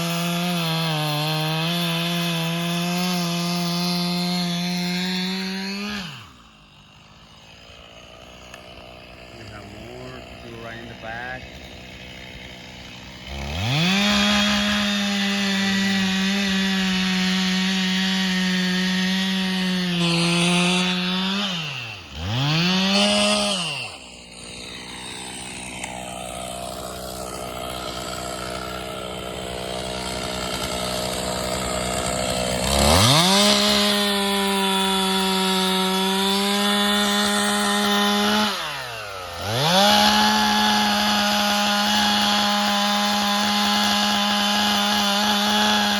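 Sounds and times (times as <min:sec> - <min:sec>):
two-stroke chainsaw revving: 0:00.0 - 0:45.9.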